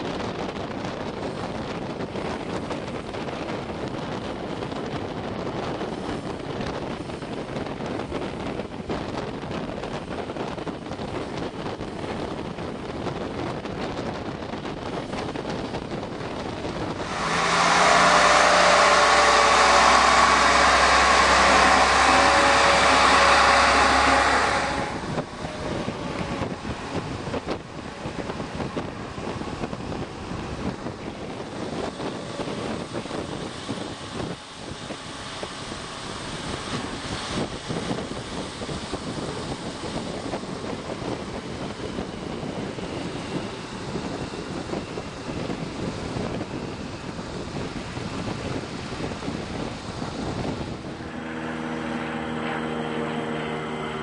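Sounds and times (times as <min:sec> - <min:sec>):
diesel locomotive engine running: 0:00.0 - 0:54.0
low train rumble: 0:00.0 - 0:54.0
wind buffeting microphone: 0:00.0 - 0:54.0.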